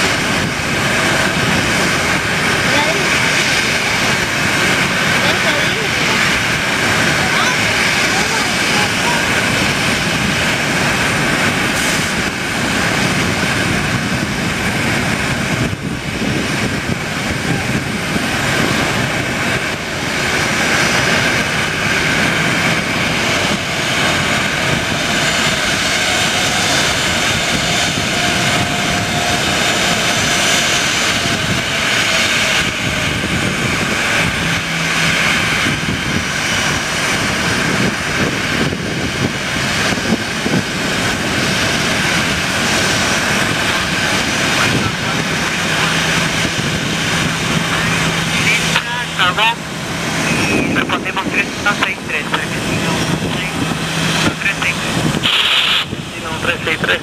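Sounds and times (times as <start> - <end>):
jet airliner taxiing: 0.0 - 57.0.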